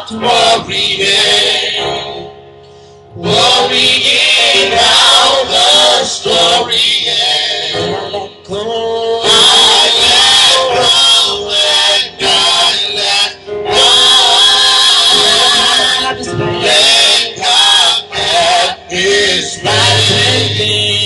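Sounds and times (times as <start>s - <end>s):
group singing gospel song: 0.0s - 2.4s, 3.0s - 21.0s.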